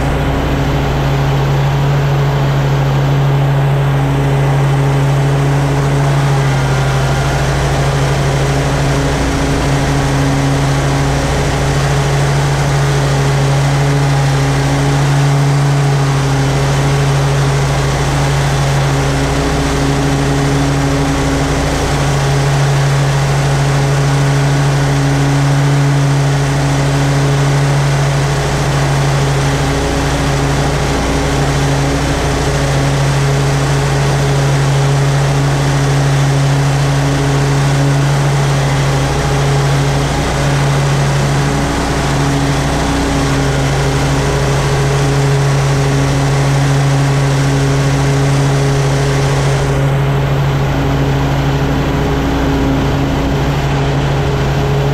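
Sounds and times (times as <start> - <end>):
lawn mower engine droning: 0.0 - 54.9.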